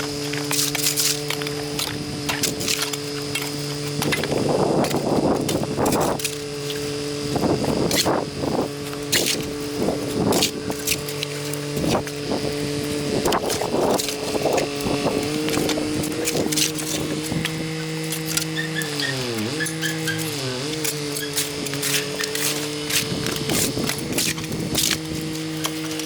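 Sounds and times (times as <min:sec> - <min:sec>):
bursts of rough noise: 0:00.0 - 0:26.0
motor running steadily: 0:00.0 - 0:26.0.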